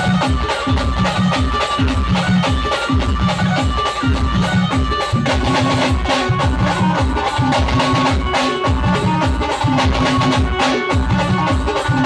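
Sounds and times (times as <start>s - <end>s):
heavy drum beat: 0.0s - 12.0s
wind instrument melody: 0.0s - 12.0s.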